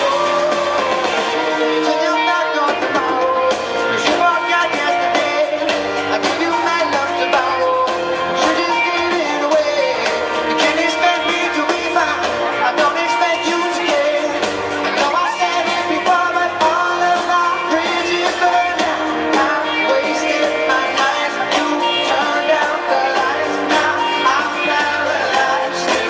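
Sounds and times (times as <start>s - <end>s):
live pop-rock band: 0.0s - 26.0s
person singing: 0.0s - 26.0s.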